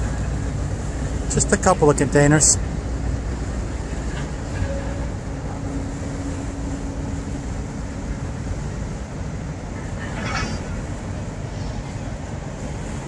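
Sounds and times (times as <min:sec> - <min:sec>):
diesel engines rumbling: 0:00.0 - 0:13.0
steady hum: 0:00.0 - 0:13.0.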